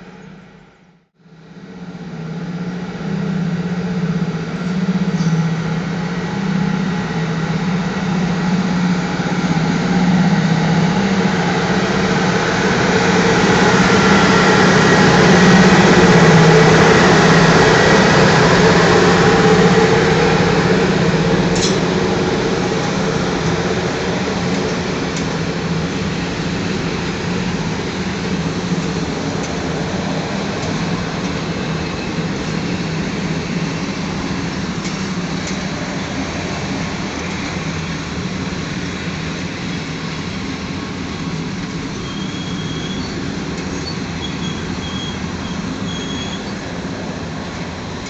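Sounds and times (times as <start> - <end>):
electric locomotive hum: 0.0 - 48.0
train coaches rolling over rails: 2.4 - 48.0.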